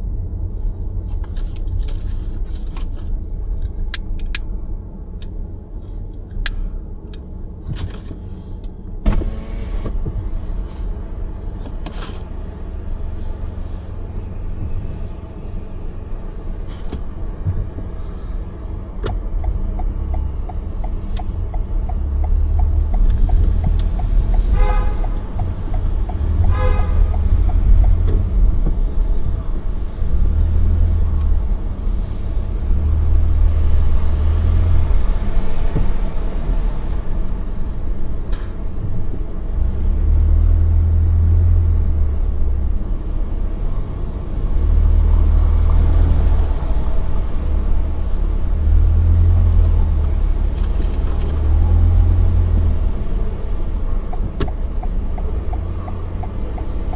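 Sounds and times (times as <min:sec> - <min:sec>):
road and engine rumble: 0:00.0 - 0:56.9.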